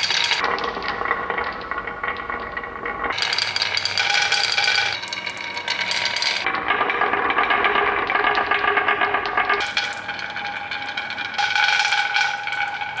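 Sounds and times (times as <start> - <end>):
toys rattling on a track: 0.0 - 0.7, 3.1 - 13.0.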